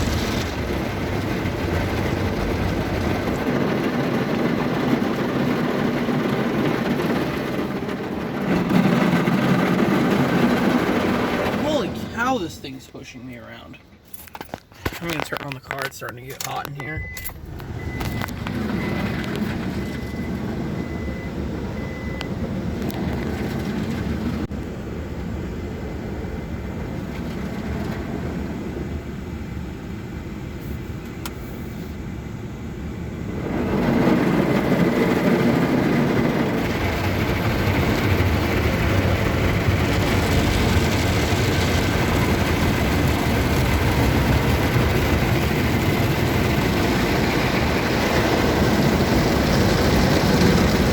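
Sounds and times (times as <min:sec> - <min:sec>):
car wash machine working: 0:00.0 - 0:13.4, 0:16.9 - 0:30.6, 0:32.4 - 0:50.9.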